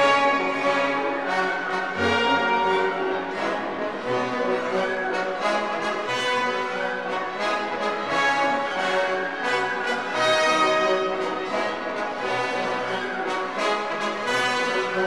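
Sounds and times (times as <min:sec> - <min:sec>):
orchestral music with brass: 0:00.0 - 0:15.0.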